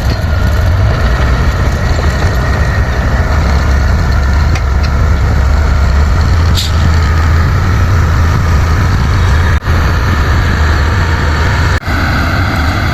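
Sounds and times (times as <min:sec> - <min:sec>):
bulldozer diesel engine running: 0:00.0 - 0:12.9.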